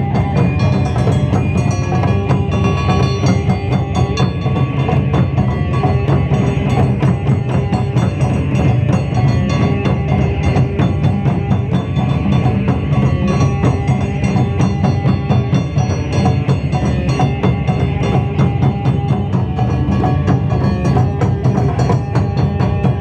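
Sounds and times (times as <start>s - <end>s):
drums in fast rhythm: 0.0s - 23.0s.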